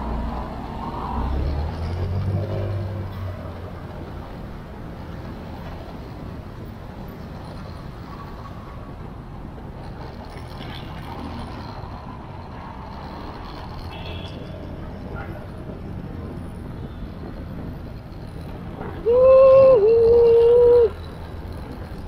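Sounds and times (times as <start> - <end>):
motorcycle engine and road noise: 0.0 - 22.0.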